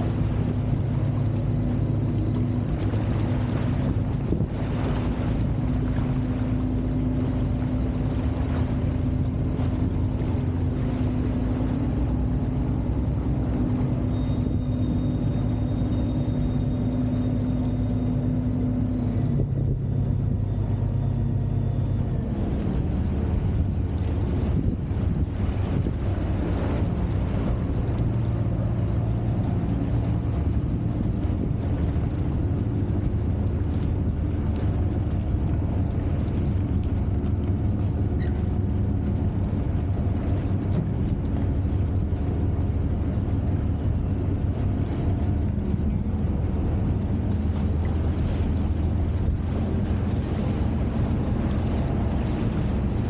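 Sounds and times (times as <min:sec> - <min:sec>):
wind on microphone: 0:00.0 - 0:17.3, 0:18.1 - 0:53.0
motorboat engine humming: 0:00.0 - 0:53.0
water rushing along hull: 0:00.0 - 0:53.0.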